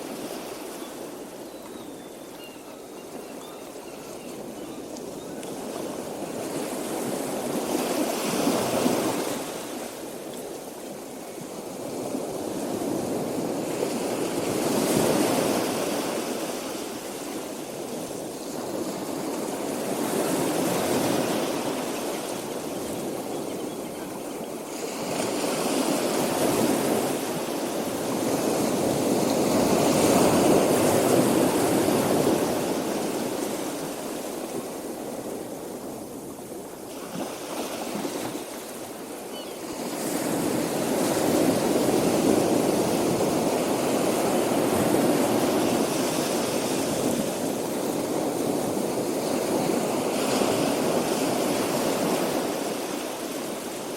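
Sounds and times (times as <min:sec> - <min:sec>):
ocean surf washing onto beach: 0:00.0 - 0:01.5, 0:04.3 - 0:53.9.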